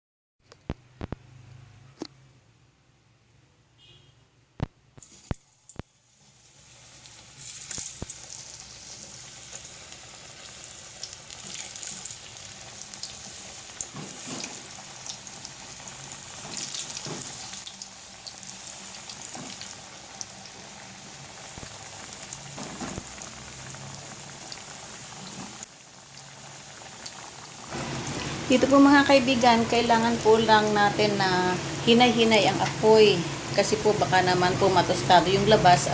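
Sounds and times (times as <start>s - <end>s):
food sizzling in hot oil: 5.0s - 35.9s.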